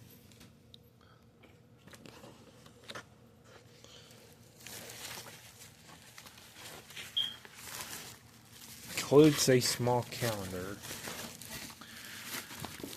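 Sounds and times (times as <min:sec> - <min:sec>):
packaging rustling: 0:01.9 - 0:12.9.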